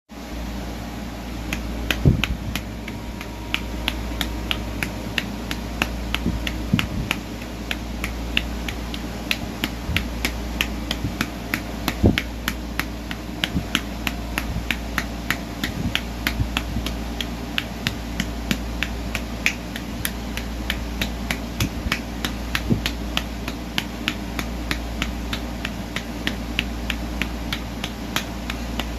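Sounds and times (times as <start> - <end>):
steady low hum: 0.1 - 28.9
deep thumps: 1.5 - 28.9.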